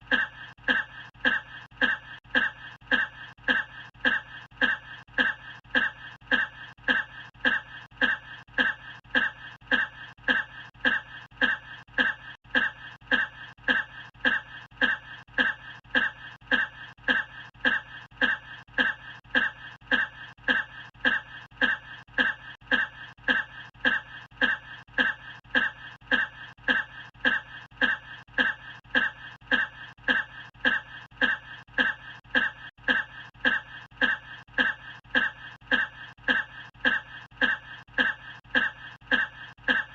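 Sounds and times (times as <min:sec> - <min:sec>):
man coughing: 0:00.0 - 0:39.9.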